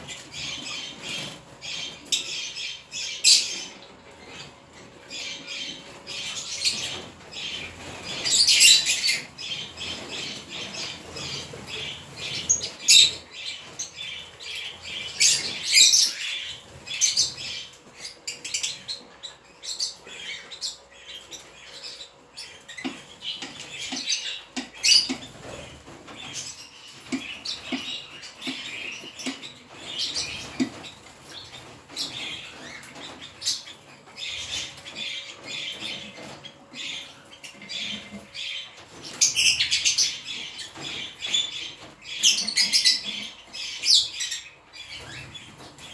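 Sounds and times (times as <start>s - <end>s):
birds chattering: 0.0s - 45.9s.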